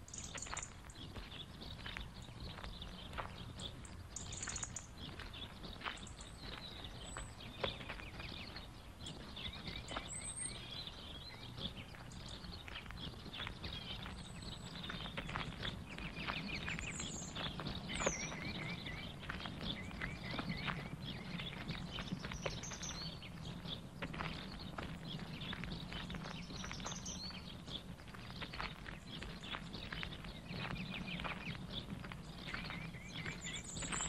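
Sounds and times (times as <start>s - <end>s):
birds chirping: 0.0s - 34.0s
faint outdoor ambience: 0.0s - 34.0s.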